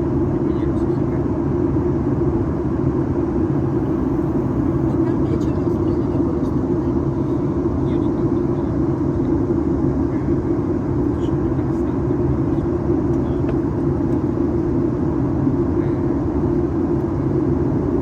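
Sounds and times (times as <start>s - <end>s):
airflow rushing in aircraft cabin: 0.0s - 18.0s
low engine hum: 0.0s - 18.0s.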